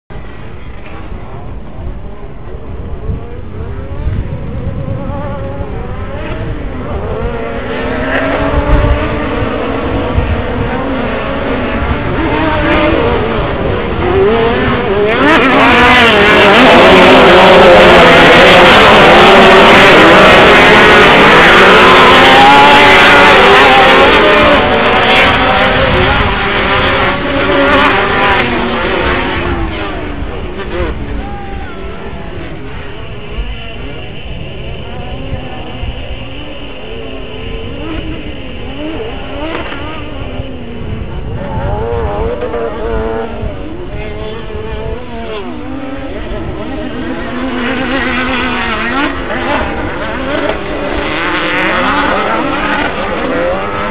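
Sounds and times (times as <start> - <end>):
rc car engines revving: 0.2 - 53.9.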